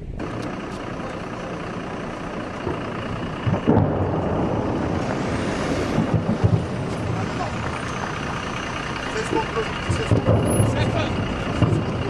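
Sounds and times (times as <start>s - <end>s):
vans driving past: 0.0s - 12.0s.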